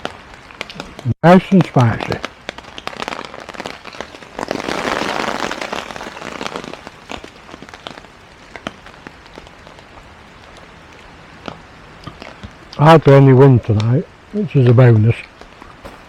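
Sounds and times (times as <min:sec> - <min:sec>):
rain falling: 0:00.0 - 0:16.0
sharp ticks of raindrops: 0:00.0 - 0:16.0.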